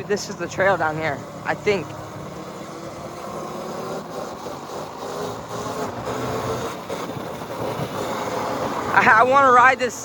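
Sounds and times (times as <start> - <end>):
small motorbike engine running: 0.0 - 9.5
wind noise: 0.0 - 9.5.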